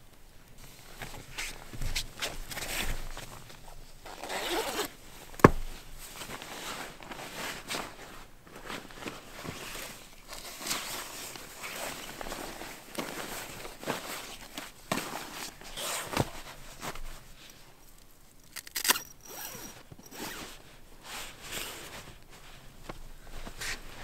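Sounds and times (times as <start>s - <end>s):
rustling and scraping handling noises: 0.6s - 24.0s.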